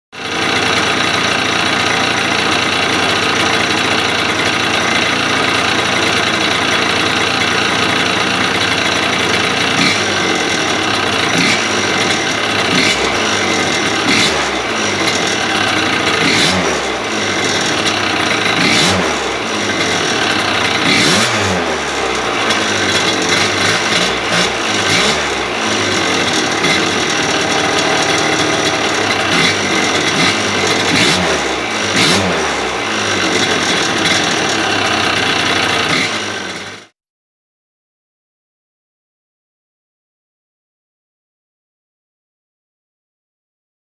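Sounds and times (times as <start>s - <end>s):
engine rattle and clatter: 0.1s - 36.9s
scooter engine idling and revving: 0.1s - 37.0s.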